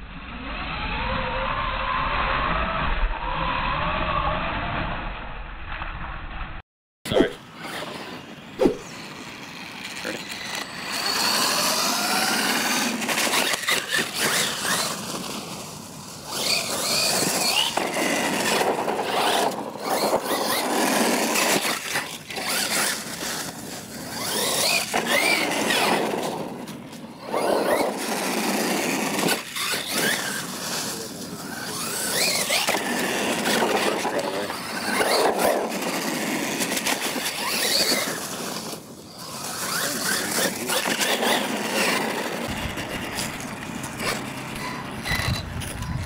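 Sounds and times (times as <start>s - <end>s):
toy truck electric motor whining: 7.5s - 46.0s.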